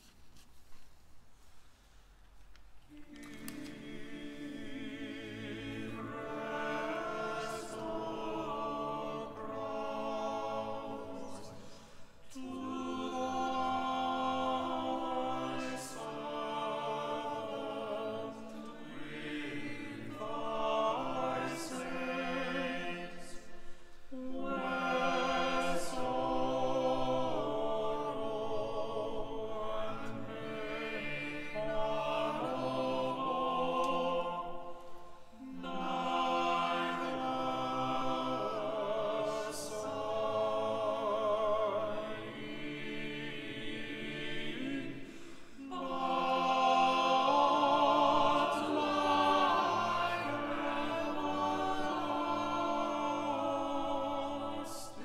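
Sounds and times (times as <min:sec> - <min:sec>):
choir singing: 0:02.9 - 0:55.0.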